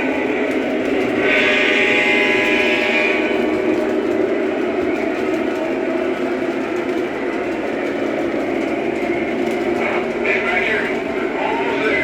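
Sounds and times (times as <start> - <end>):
train running: 0.0 - 12.0.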